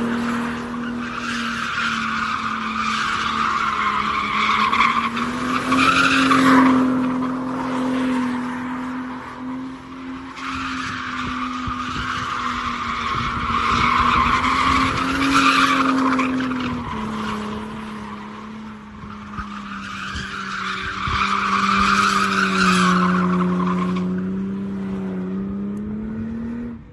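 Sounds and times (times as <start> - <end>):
car engine revving: 0.0 - 26.9
tyres screeching: 0.4 - 24.6.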